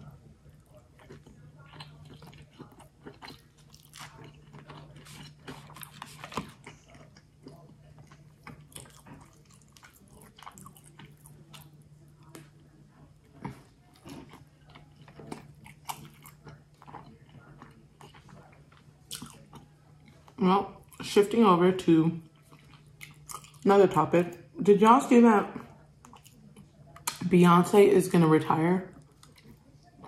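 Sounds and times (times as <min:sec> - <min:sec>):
person chewing food: 0:00.0 - 0:21.1, 0:22.2 - 0:23.7, 0:25.5 - 0:27.2, 0:28.9 - 0:30.0.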